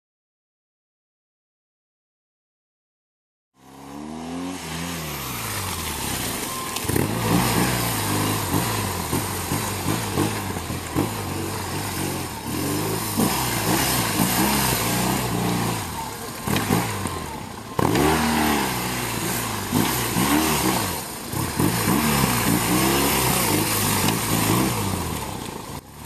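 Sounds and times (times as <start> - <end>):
motorcycle engine revving: 3.6 - 26.0.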